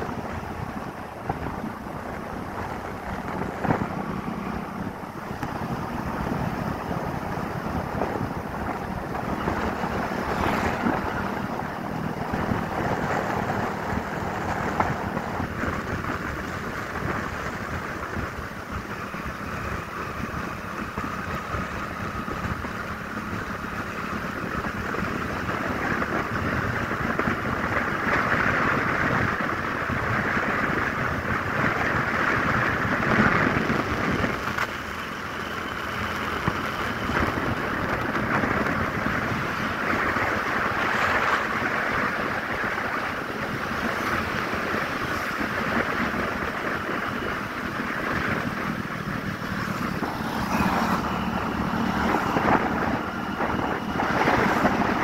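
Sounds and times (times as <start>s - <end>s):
motorcycle engine hum: 0.0s - 55.0s
wind rushing over microphone: 0.0s - 55.0s.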